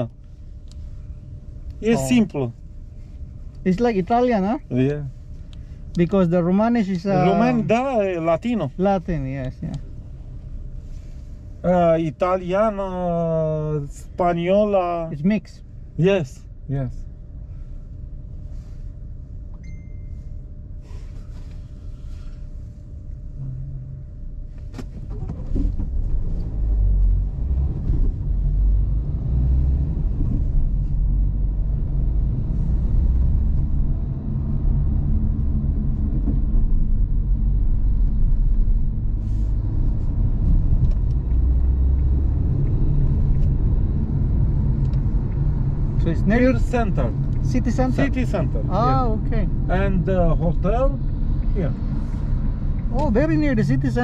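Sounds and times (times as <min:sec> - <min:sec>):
car engine hum: 0:00.0 - 0:54.0
road rumble: 0:00.0 - 0:54.0.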